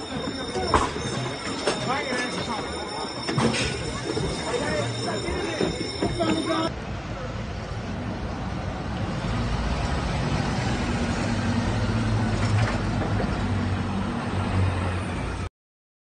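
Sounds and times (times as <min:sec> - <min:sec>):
city street noise: 0:00.0 - 0:15.5.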